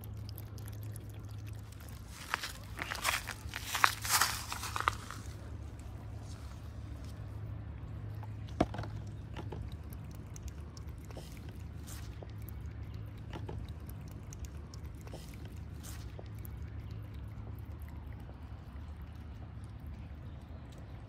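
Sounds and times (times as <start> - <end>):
cat lapping and chewing: 0.0 - 21.0.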